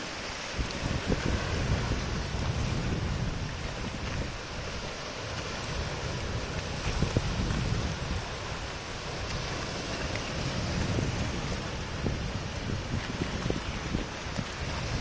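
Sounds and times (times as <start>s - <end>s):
sea water lapping on rocks: 0.0s - 15.0s
wind buffeting microphone: 0.4s - 15.0s.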